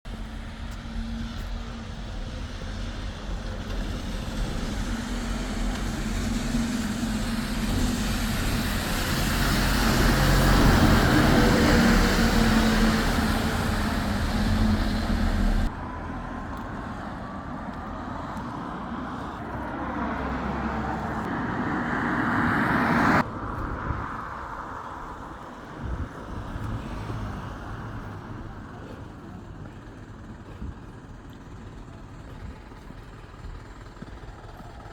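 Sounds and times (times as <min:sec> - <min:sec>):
tyres hissing on wet road: 0:00.1 - 0:15.7, 0:16.3 - 0:23.2, 0:24.5 - 0:30.4
heavy vehicle engine rumble: 0:00.1 - 0:21.8, 0:22.9 - 0:34.9.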